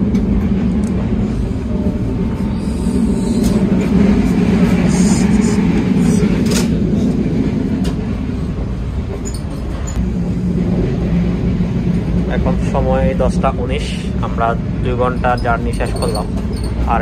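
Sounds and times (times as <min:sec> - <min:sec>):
train rumble inside coach: 0:00.0 - 0:17.0.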